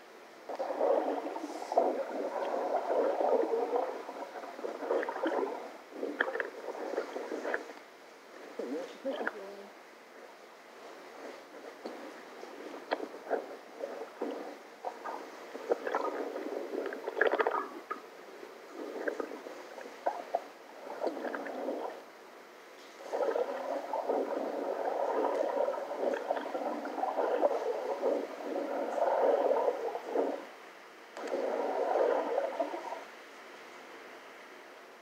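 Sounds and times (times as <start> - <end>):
underwater gurgling and bubbling: 0.5 - 9.4, 11.0 - 30.6, 31.2 - 33.2.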